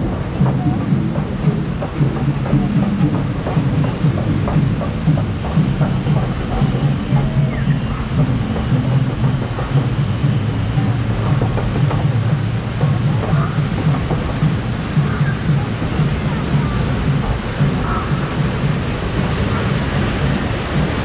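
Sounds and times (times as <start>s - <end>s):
conveyor chain and rollers clattering: 0.0s - 21.0s
low mechanical drone: 0.0s - 21.0s.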